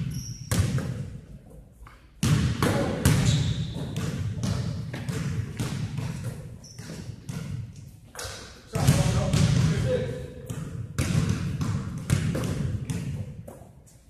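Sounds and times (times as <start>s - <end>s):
basketball bouncing on wooden floor: 0.0s - 1.2s, 2.2s - 13.7s.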